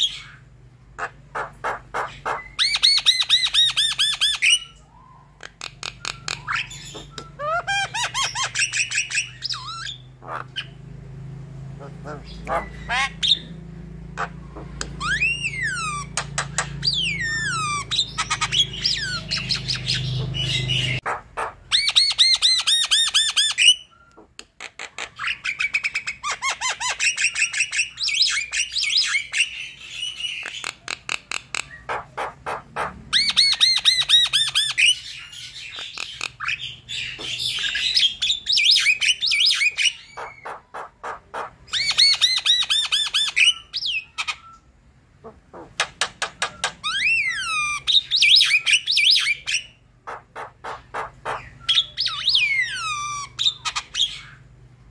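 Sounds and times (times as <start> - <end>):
bird singing chattering notes: 0.0 - 10.9, 11.8 - 54.6.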